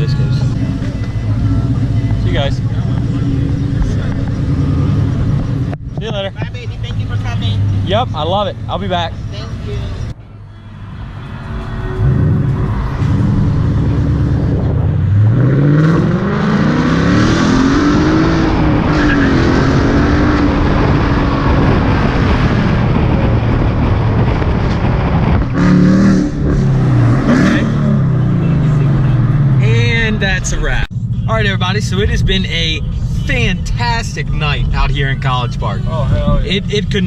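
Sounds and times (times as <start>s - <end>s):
car engine accelerating hard: 0.0s - 10.2s, 11.0s - 37.0s.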